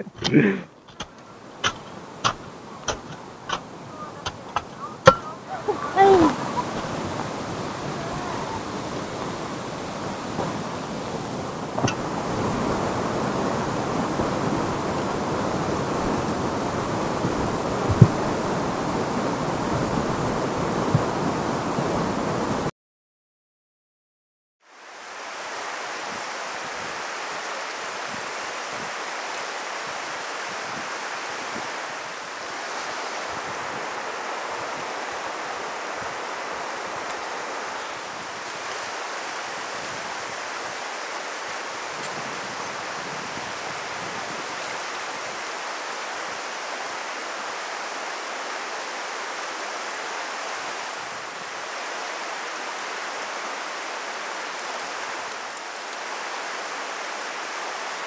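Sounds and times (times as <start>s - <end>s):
flowing water rushing: 0.0s - 22.7s, 24.6s - 58.0s.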